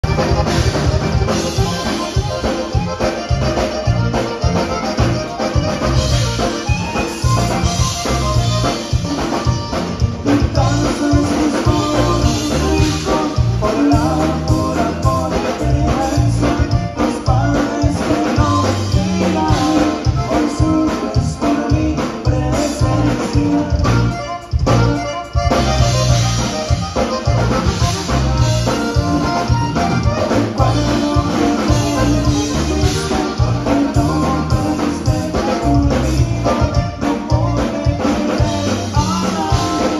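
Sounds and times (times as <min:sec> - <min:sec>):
bajo sexto: 0:00.0 - 0:39.9
button accordion: 0:00.0 - 0:39.9
drum kit dance beat: 0:00.0 - 0:39.9
electric bass: 0:00.0 - 0:39.9.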